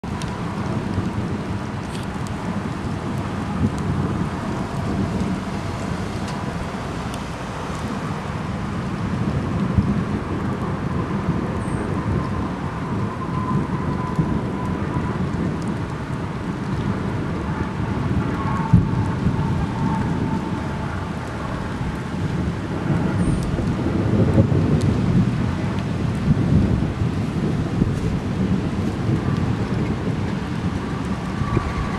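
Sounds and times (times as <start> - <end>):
heavy rain: 0.0 - 31.9
low thunder rumble: 0.0 - 31.9
wind noise: 0.0 - 31.9.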